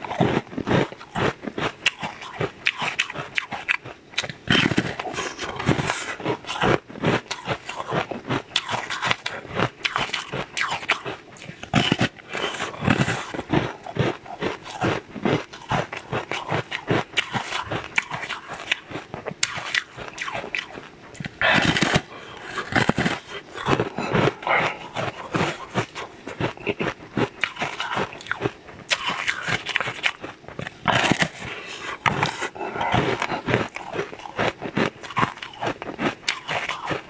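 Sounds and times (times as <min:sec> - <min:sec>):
crunchy chewing: 0:00.0 - 0:37.0.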